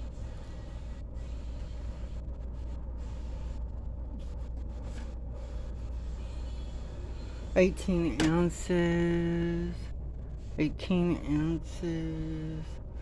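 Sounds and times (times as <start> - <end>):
indoor store background rumble: 0.0 - 13.0.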